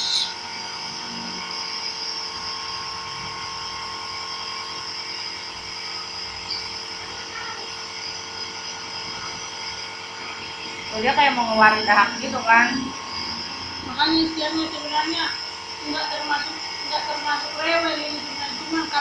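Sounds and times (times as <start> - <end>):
nebulizer compressor humming: 0.0 - 19.0.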